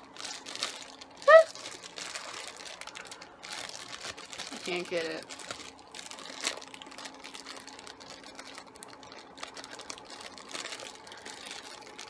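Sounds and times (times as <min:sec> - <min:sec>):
packaging being opened by hand: 0:00.0 - 0:12.0.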